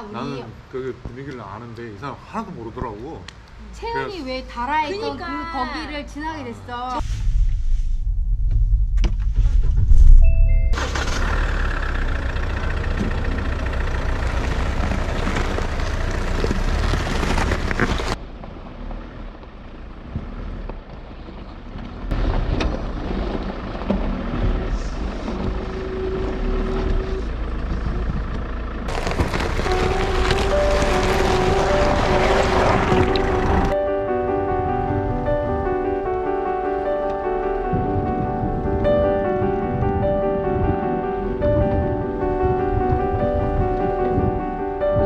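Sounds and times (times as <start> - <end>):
diesel engine starting and running: 8.0 - 45.0.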